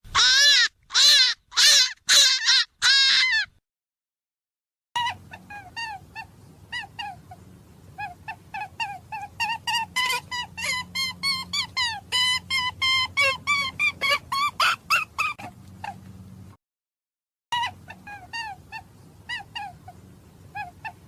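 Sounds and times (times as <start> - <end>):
animal squeaking calls: 0.1 - 3.5, 5.0 - 7.4, 8.0 - 16.0, 17.6 - 21.0.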